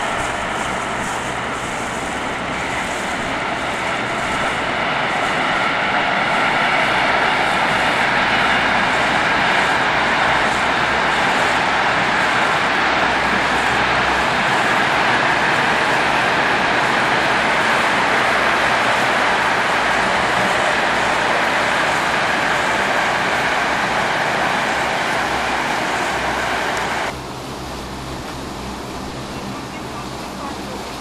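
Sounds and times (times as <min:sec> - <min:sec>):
train wheels roaring on rails: 0:00.0 - 0:31.0.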